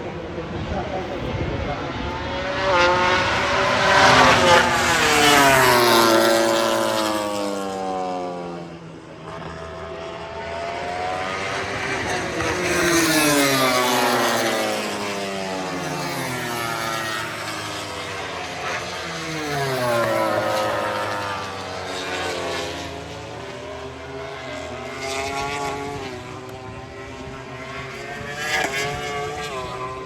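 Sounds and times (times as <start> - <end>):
race motorcycles passing at speed: 0.0 - 30.0.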